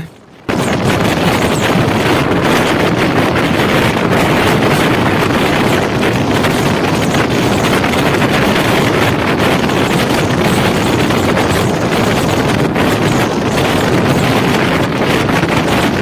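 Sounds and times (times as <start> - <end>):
train coaches rumbling on rails: 0.0 - 16.0
wind rushing on microphone: 0.0 - 16.0.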